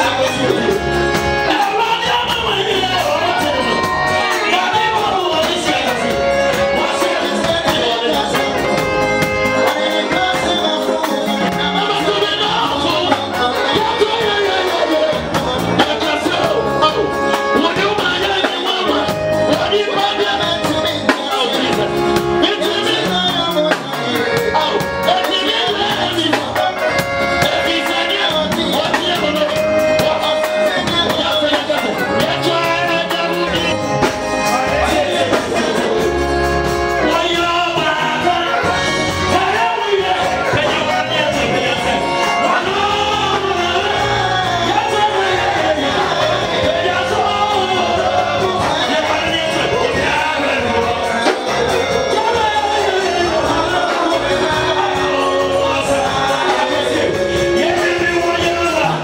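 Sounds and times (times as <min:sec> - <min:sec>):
drum kit with cymbals: 0:00.0 - 0:59.0
electric bass: 0:00.0 - 0:59.0
electronic keyboards: 0:00.0 - 0:59.0.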